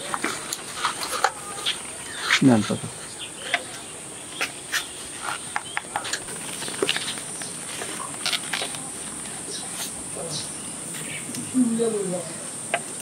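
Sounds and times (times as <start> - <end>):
rustles: 0.0 - 13.0.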